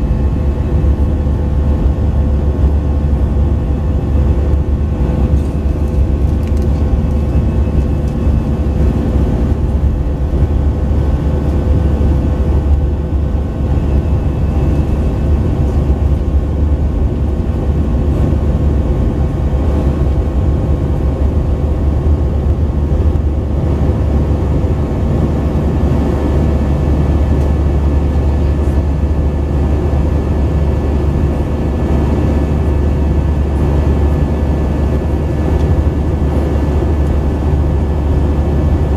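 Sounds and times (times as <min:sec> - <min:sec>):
jet engines droning in cabin: 0:00.0 - 0:38.9.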